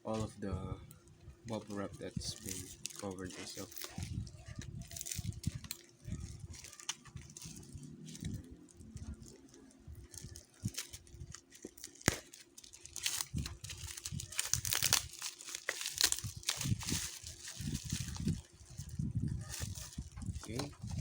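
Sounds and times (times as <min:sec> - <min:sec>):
bubble wrap crinkling and crackling: 0:00.0 - 0:21.0.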